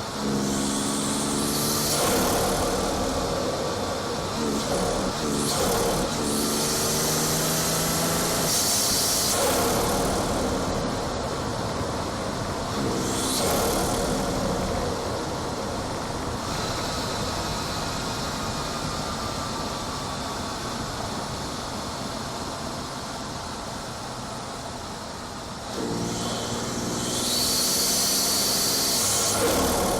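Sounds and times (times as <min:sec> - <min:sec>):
car engine under load: 0:00.0 - 0:29.9
road noise: 0:00.0 - 0:29.9.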